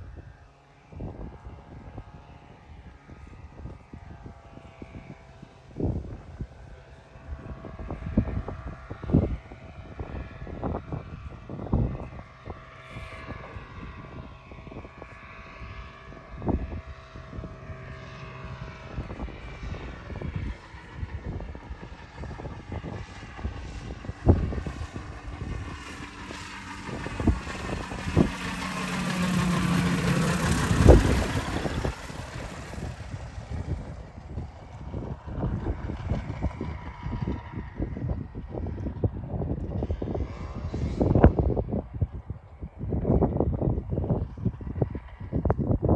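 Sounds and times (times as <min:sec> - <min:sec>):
microlight engine droning: 0:00.0 - 0:45.9
wind buffeting microphone: 0:00.0 - 0:45.9.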